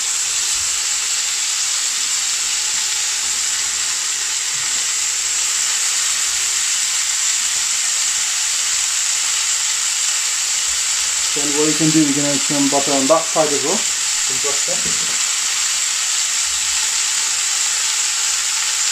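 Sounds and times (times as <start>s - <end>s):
skewers sizzling on grill pan: 0.0s - 18.9s.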